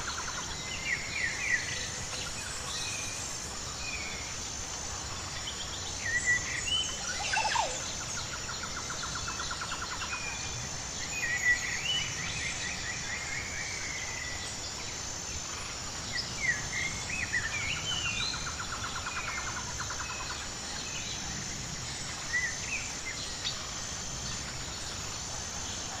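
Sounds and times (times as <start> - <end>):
pulsing insect chorus: 0.0 - 26.0.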